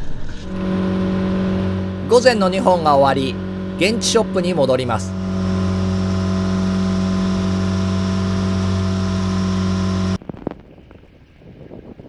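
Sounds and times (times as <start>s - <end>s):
boat engine droning: 0.0s - 10.2s.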